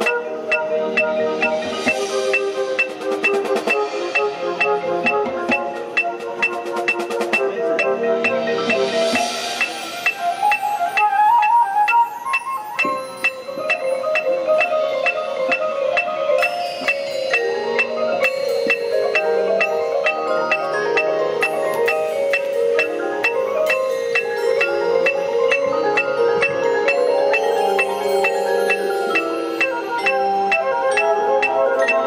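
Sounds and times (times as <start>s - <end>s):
marimbas and glockenspiel playing: 0.0s - 32.0s.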